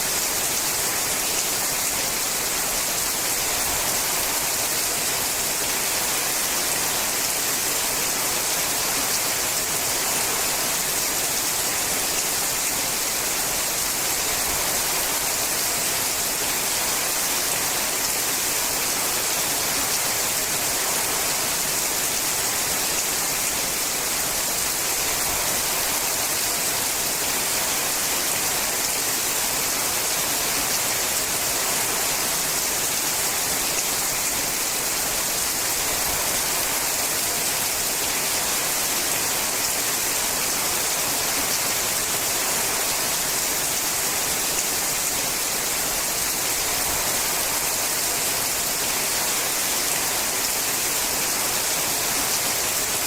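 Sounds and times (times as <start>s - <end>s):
rain on a metal roof: 0.0s - 53.0s.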